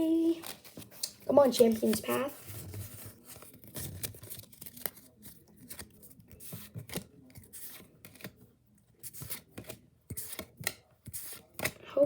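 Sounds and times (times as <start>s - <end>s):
cards rustling: 0.1s - 11.8s.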